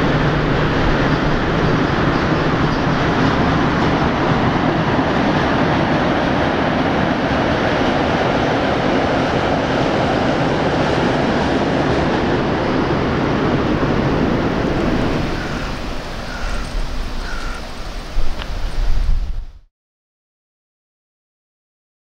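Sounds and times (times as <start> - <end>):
locomotives rolling over steel bridge: 0.0 - 19.2.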